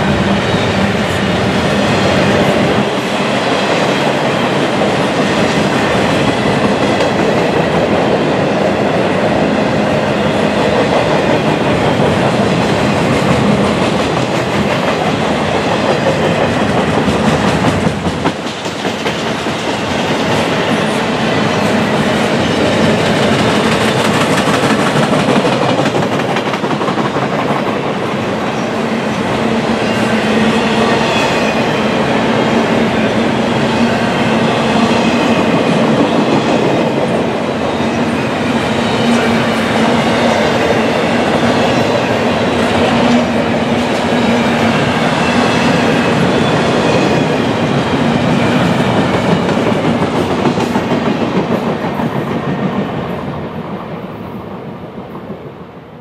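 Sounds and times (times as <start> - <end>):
train wheels rushing on rail: 0.0 - 56.0.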